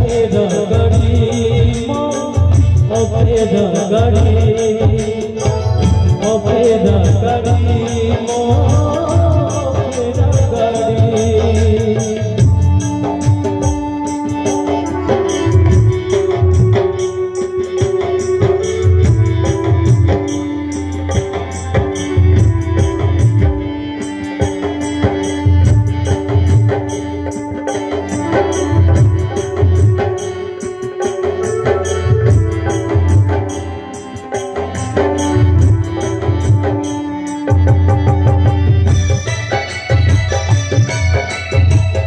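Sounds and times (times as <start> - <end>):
barrel drum beat: 0.0 - 42.0
jingling percussion: 0.0 - 42.0
keyboard melody: 0.0 - 42.0.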